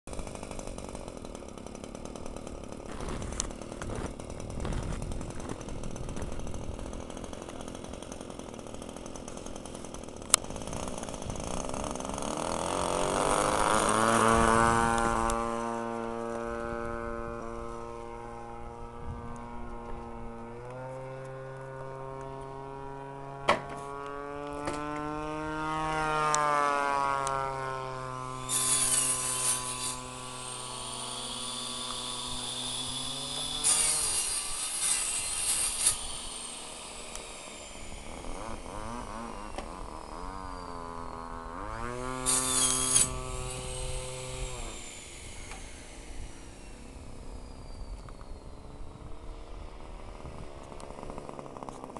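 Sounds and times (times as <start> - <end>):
model plane engine buzzing: 0.1 - 51.9.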